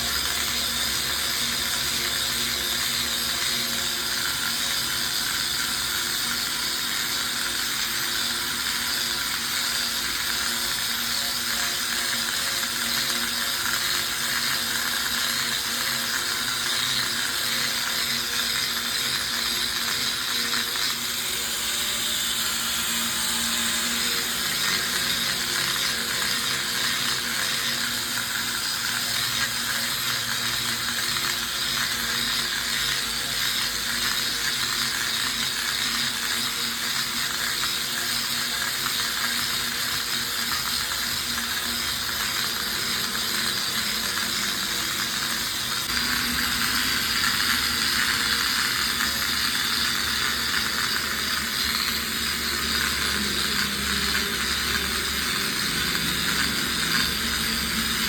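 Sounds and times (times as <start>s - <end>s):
machine whirring and rattling: 0.0s - 58.0s.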